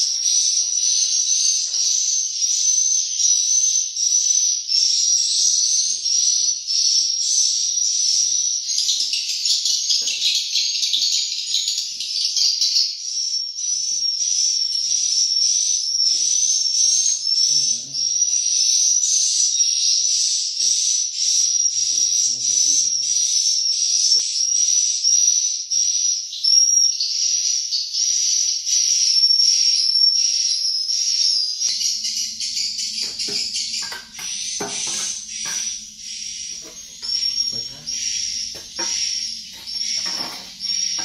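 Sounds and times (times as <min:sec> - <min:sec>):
swiftlets chirping and twittering: 0:00.0 - 0:25.1, 0:25.7 - 0:41.0.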